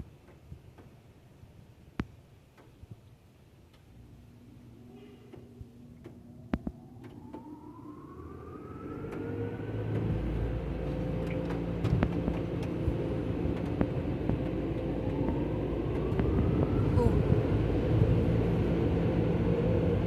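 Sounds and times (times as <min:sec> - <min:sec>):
car wash dryer blowers whining: 0:03.9 - 0:20.0.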